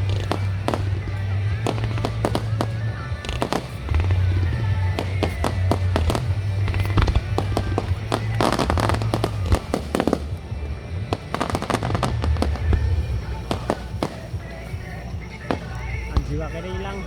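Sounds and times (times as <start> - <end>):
fireworks bangs and pops: 0.0 - 16.7
fireworks crackling: 0.0 - 17.0.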